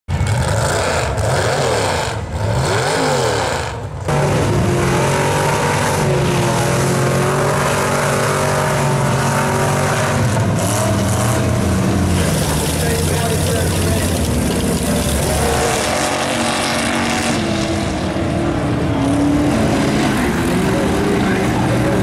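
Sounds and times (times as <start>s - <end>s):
truck engine revving high: 0.1s - 22.0s.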